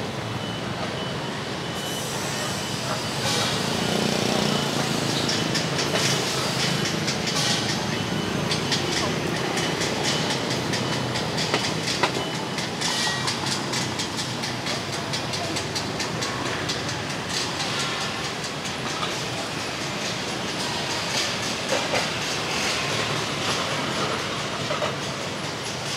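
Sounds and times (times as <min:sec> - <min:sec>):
motorbike traffic hum: 0:00.0 - 0:25.9.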